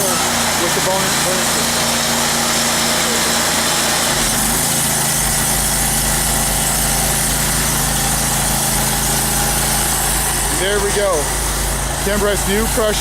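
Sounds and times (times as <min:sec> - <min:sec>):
pressure washer wand hissing: 0:00.0 - 0:13.0.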